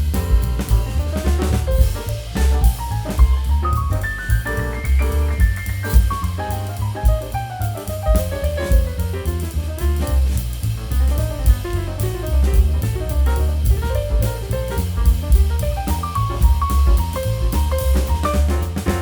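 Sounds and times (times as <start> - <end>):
upbeat jazz tune: 0.0 - 19.0.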